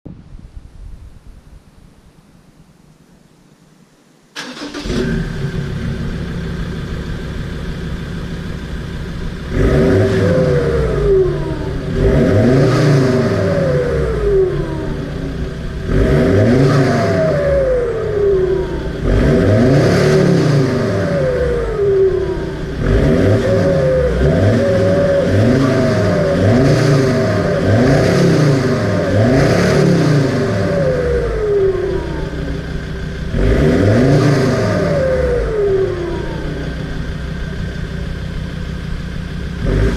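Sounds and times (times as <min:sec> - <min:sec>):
truck engine revving: 0:04.4 - 0:39.9.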